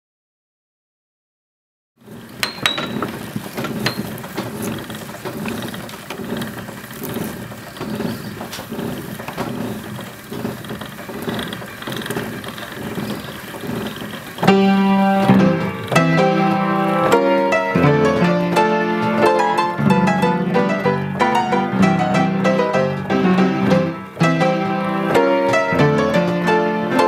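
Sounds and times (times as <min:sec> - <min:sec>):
mechanical clattering and clicking: 0:02.1 - 0:27.0.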